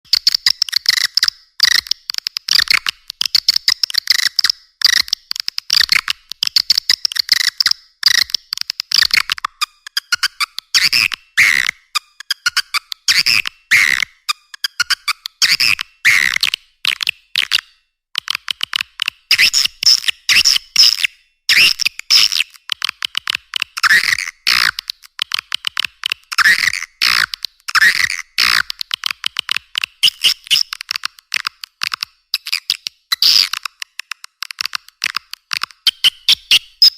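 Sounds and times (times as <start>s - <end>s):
quick clicks: 0.1s - 36.9s.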